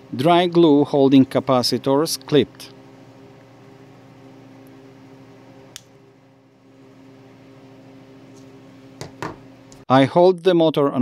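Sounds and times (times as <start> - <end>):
steady background hum: 0.0 - 10.3.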